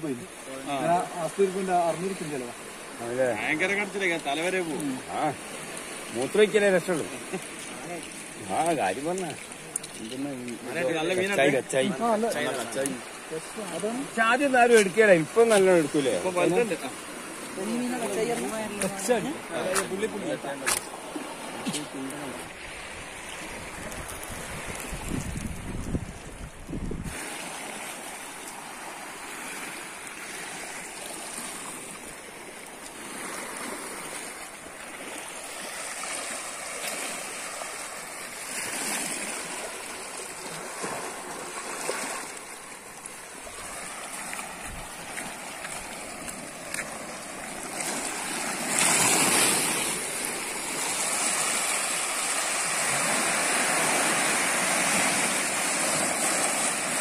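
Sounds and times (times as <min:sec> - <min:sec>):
waves washing over rocky shore: 0:00.0 - 0:57.0.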